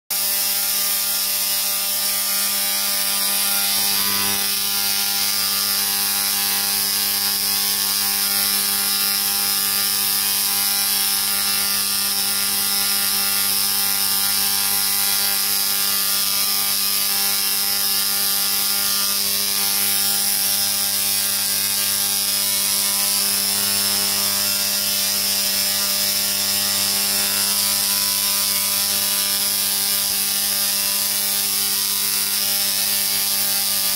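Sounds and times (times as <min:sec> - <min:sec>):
tesla coil rasping buzz: 0:00.1 - 0:33.9.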